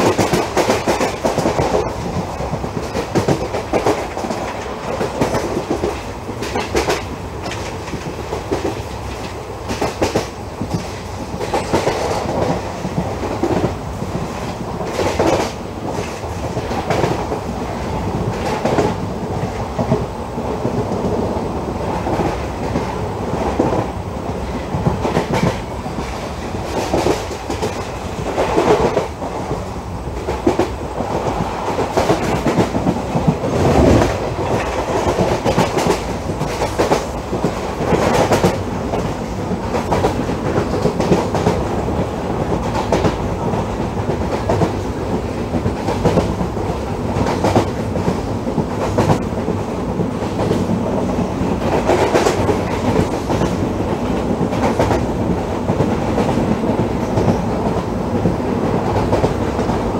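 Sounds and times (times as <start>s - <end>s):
train rumbling at high speed: 0.0s - 59.9s.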